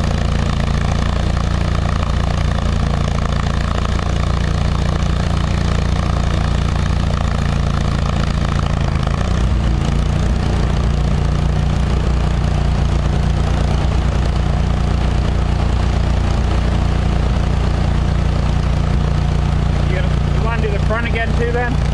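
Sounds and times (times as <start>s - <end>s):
small gasoline engine running: 0.0s - 21.9s.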